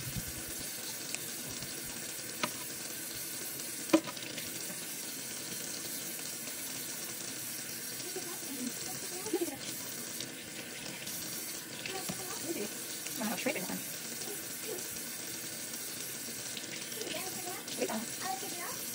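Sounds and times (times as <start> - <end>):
tap water running into metal bowl: 0.0 - 18.9.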